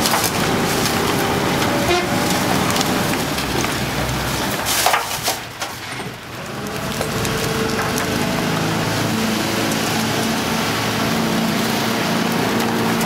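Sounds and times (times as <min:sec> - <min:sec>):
compactor crushing rubbish: 0:00.0 - 0:13.0
crackling and crunch: 0:00.0 - 0:13.0
truck machinery running: 0:00.0 - 0:13.0.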